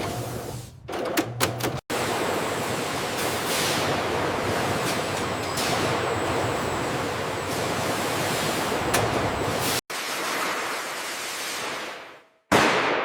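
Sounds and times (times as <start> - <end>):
factory machinery running: 0.0 - 11.6.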